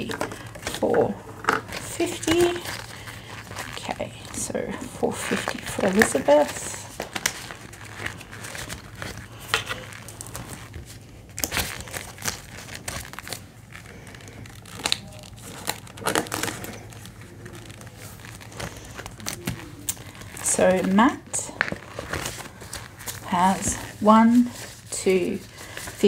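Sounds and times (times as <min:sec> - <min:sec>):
plastic and banknotes crinkling: 0:00.0 - 0:26.0.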